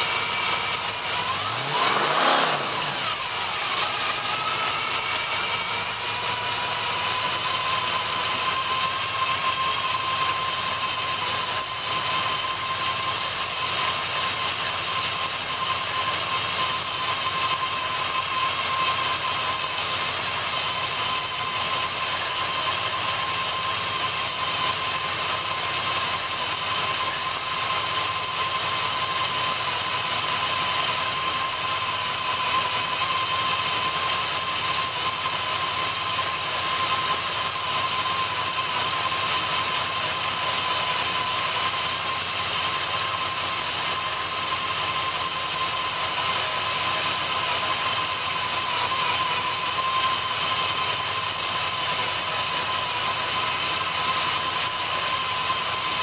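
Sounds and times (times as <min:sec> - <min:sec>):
race engine idling: 0:00.0 - 0:56.0.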